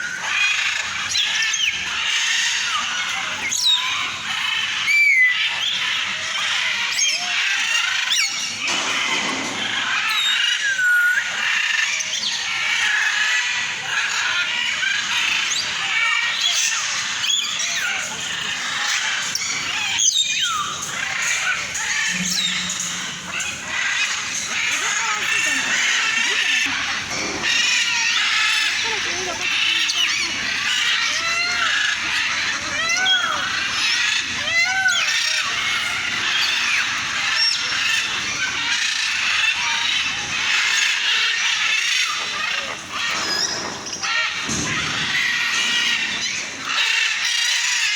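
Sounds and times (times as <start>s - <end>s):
aviary birds chirping: 0.0s - 47.9s.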